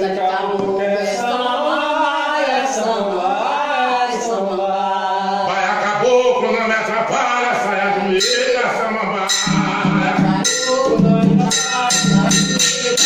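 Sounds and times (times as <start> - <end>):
men singing a sacred chant: 0.0 - 13.0.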